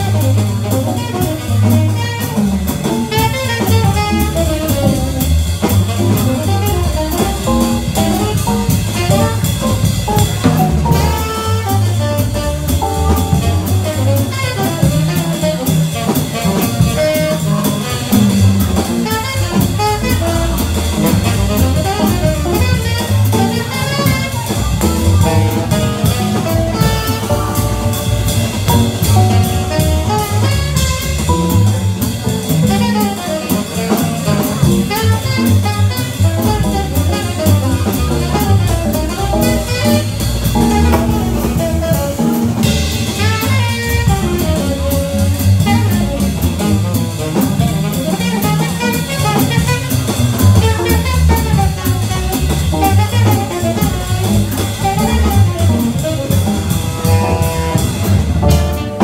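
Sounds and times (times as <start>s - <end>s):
double bass: 0.0s - 59.0s
drum kit with cymbals: 0.0s - 59.0s
jazz guitar: 0.0s - 59.0s
tenor saxophone lead: 0.0s - 59.0s.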